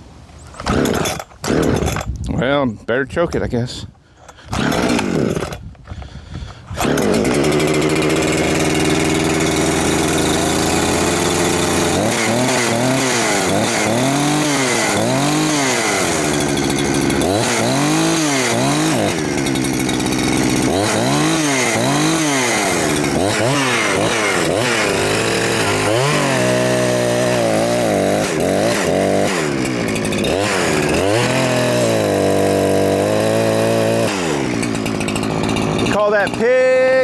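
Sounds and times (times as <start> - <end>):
chainsaw starting and revving: 0.6 - 2.2, 4.3 - 37.0.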